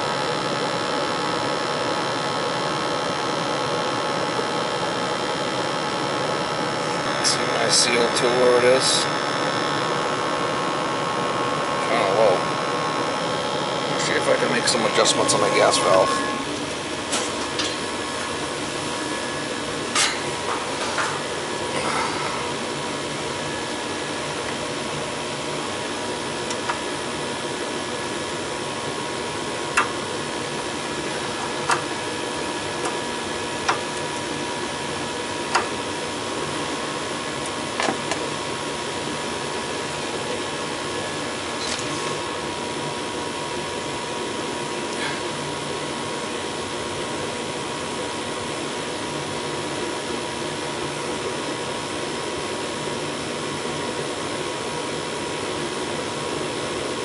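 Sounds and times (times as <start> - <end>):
faint steady whine: 0.0 - 57.0
gas furnace burners rushing hum: 0.0 - 57.0.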